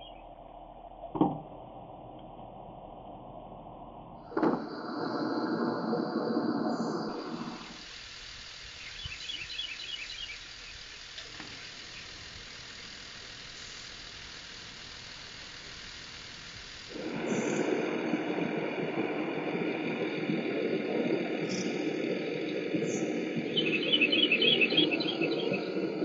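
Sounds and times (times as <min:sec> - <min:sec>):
steady rumbling noise: 0:00.0 - 0:26.0.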